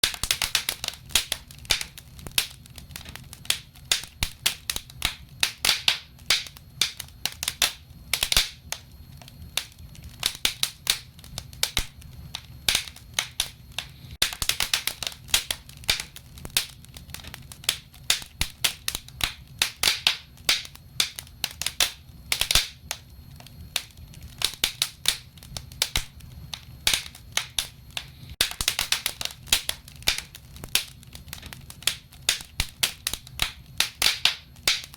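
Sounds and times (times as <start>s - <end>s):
low rumble of flames: 0.0s - 34.9s
wood fire crackling: 0.0s - 34.9s.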